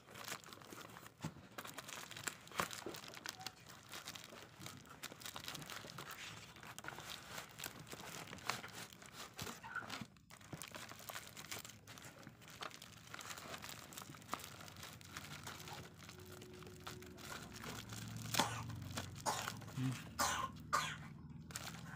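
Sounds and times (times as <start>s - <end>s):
bubble wrap crinkling: 0.0s - 21.9s.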